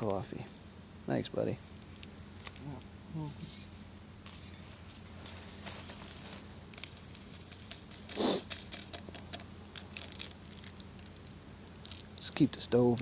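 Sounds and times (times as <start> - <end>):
crinkling handling noises: 1.4 - 13.0.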